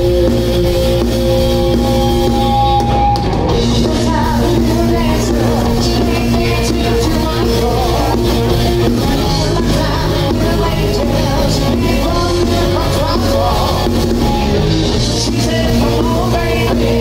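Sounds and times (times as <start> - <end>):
bass guitar: 0.0 - 17.0
drum kit: 0.0 - 17.0
electric guitar: 0.0 - 17.0
singer singing: 0.0 - 17.0.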